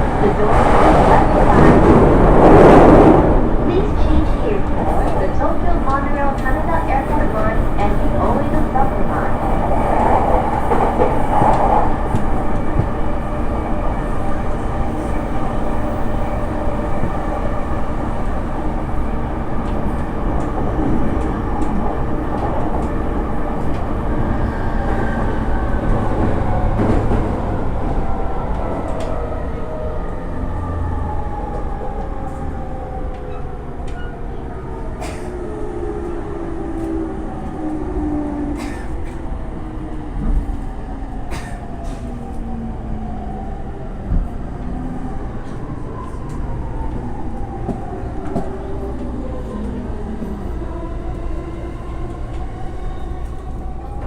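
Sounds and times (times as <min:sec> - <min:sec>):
train wheels on rail: 0:00.0 - 0:30.2, 0:31.4 - 0:42.6, 0:43.3 - 0:54.0.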